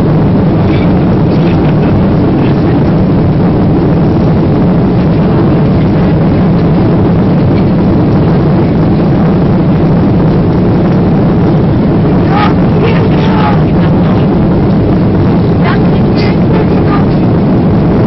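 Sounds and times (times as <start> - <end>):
jet engine cabin rushing noise: 0.0 - 18.0.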